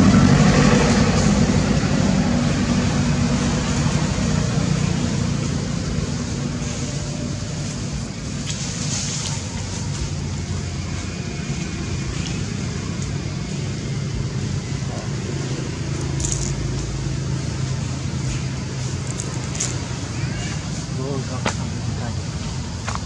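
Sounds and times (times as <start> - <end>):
constant noisy background: 0.0 - 23.0.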